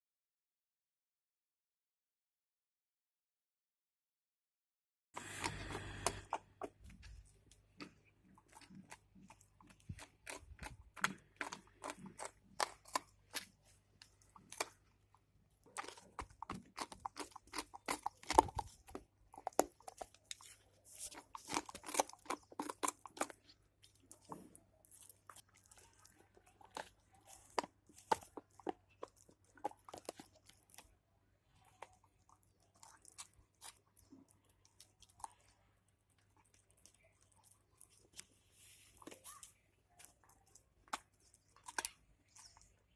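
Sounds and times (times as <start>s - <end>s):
puppy crunching on bone: 5.2s - 31.0s, 31.6s - 42.9s.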